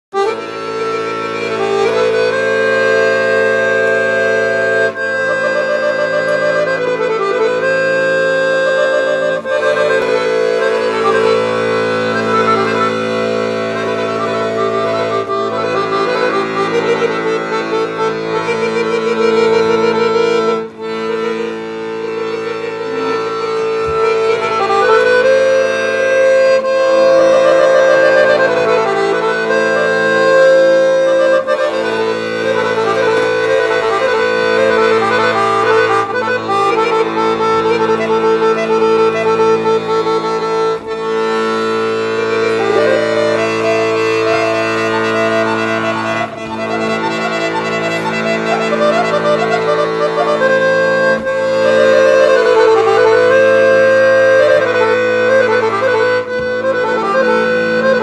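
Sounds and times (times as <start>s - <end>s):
accordion melody: 0.0s - 58.0s.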